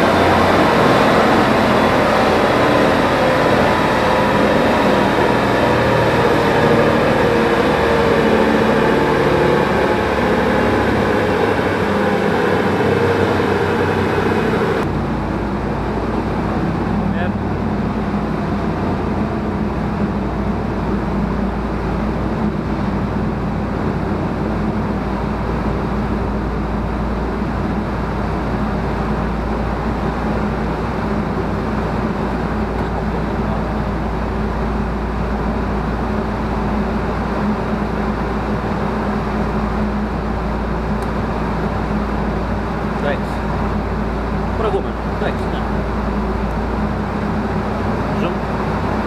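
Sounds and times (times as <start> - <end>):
machinery drone: 0.0 - 49.0.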